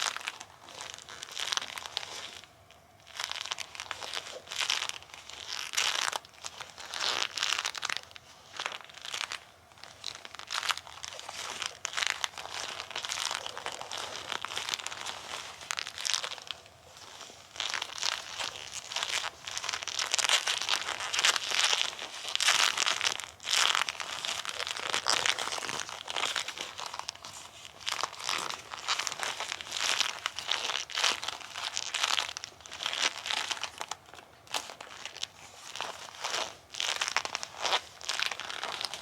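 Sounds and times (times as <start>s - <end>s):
rubber gloves rubbing together: 0.0s - 39.0s.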